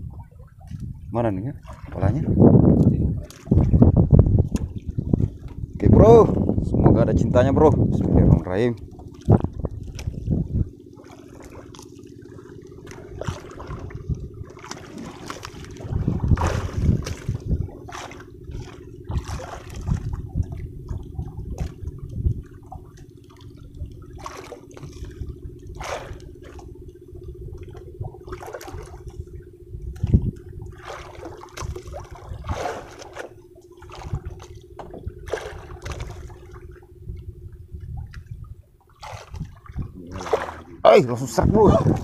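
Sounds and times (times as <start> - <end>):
boat engine humming: 0.0 - 42.0
water splashing against boat hull: 0.0 - 42.0.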